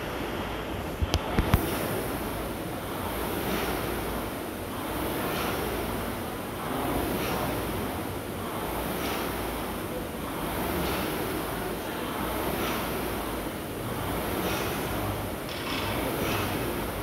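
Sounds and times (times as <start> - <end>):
rowing machine flywheel whooshing: 0.0 - 17.0.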